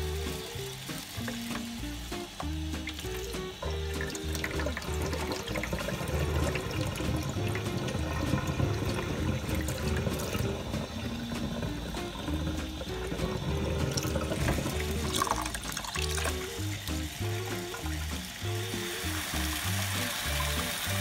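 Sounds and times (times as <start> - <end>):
background music: 0.0 - 21.0
tap water running into bowl: 0.0 - 21.0.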